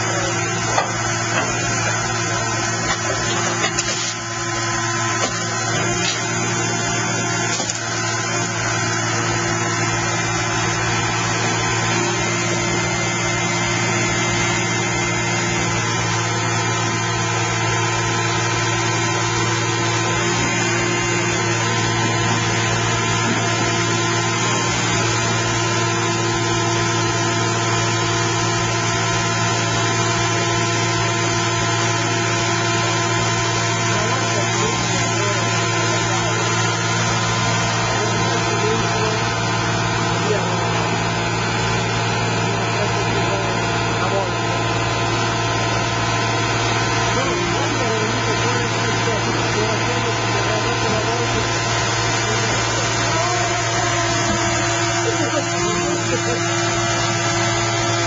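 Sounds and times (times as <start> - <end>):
engine and hydraulic pumps droning: 0.0 - 58.0.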